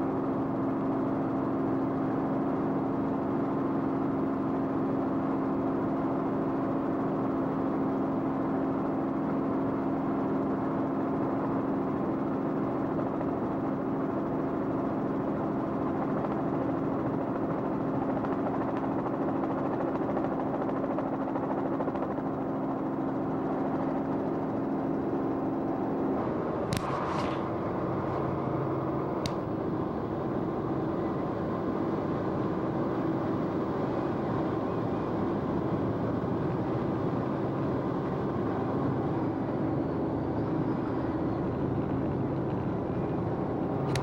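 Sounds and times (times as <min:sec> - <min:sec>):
aircraft engine droning: 0:00.1 - 0:44.0.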